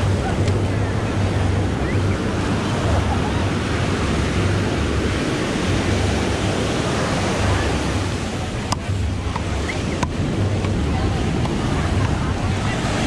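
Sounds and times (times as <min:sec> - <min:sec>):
ocean surf on beach: 0:00.0 - 0:13.0
wind buffeting microphone: 0:00.0 - 0:13.0.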